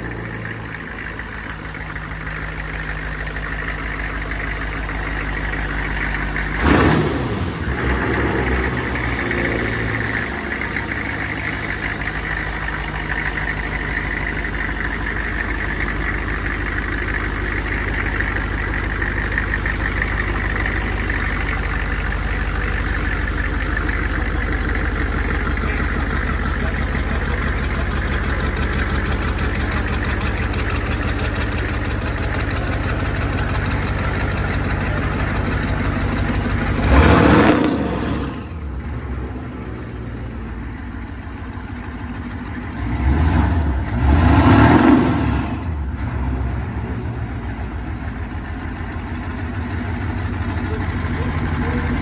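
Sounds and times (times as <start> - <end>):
car engine idling and revving: 0.0 - 52.0.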